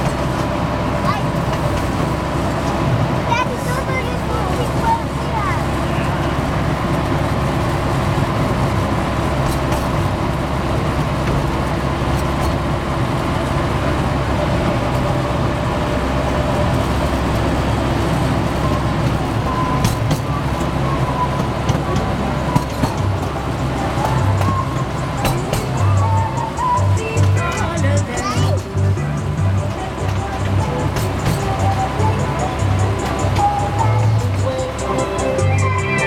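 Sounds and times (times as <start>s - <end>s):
ride train engine hum: 0.0s - 36.0s
train rumbling: 0.0s - 36.0s.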